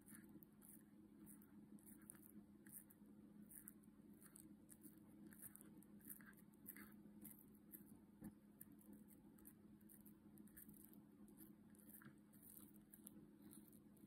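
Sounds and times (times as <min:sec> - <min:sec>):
cat chewing crunches: 0:00.0 - 0:14.0.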